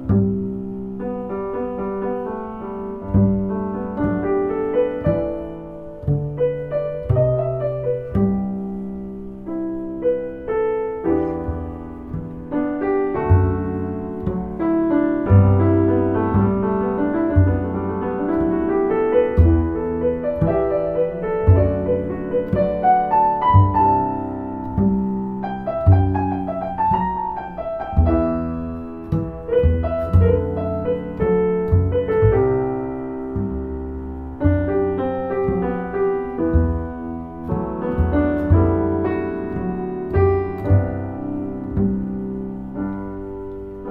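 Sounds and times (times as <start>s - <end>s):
solo piano melody: 0.0s - 43.9s.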